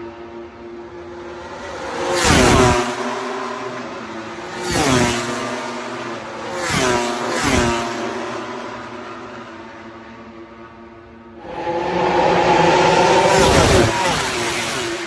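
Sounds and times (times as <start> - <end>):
racing motorcycles passing by: 0.2 - 15.0.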